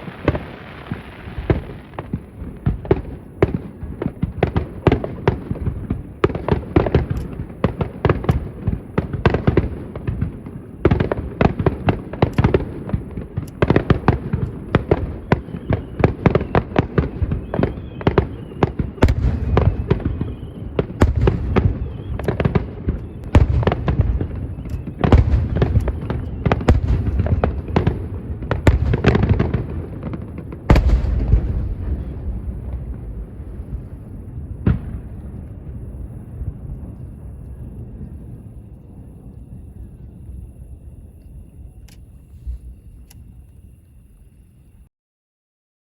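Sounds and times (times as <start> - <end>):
deep fireworks booms: 0.0 - 43.8
fireworks bursts and crackles: 0.0 - 43.8.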